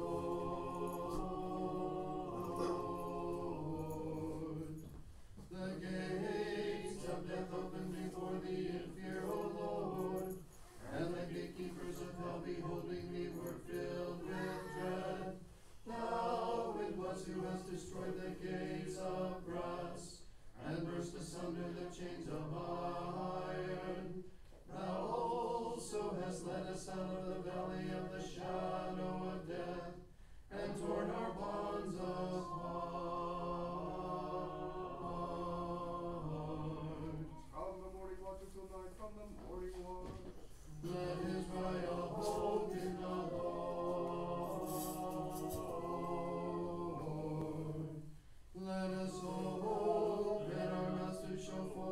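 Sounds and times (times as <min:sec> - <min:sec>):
unaccompanied choir chanting hymns: 0:00.0 - 0:51.9.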